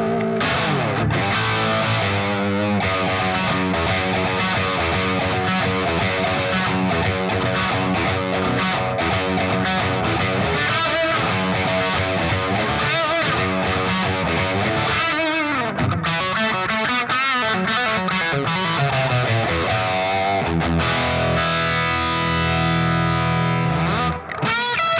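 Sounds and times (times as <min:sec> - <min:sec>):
distorted electric guitar riffs: 0:00.0 - 0:24.9.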